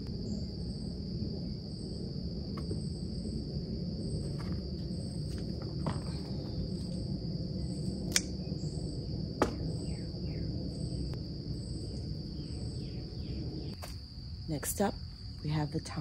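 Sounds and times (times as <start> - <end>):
high insect chirp: 0.0 - 16.0
insects droning: 0.0 - 16.0.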